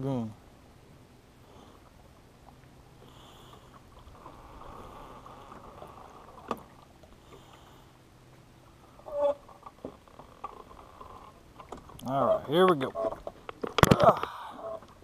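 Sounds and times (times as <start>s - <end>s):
water lapping against a boat: 1.3s - 15.0s.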